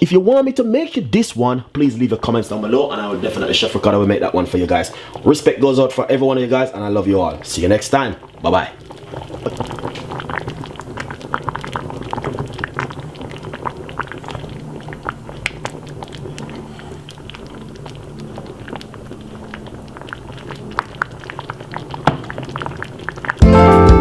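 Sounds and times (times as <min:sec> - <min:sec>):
soup bubbles popping: 0:01.7 - 0:24.0.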